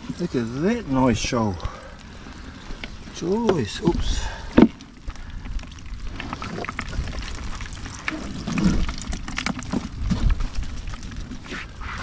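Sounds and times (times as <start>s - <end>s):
water splashing and pouring: 0.0s - 12.0s
wind rumble on microphone: 0.0s - 12.0s.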